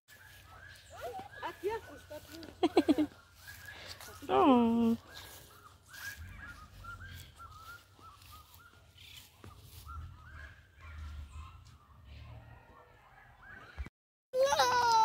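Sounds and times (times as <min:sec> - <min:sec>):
birds chirping: 0:00.1 - 0:13.9.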